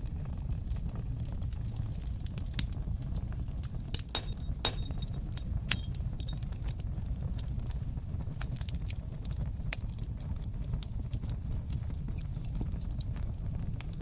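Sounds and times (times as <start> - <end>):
loud fire pops: 0.0 - 14.0
wood fire crackling: 0.0 - 14.0.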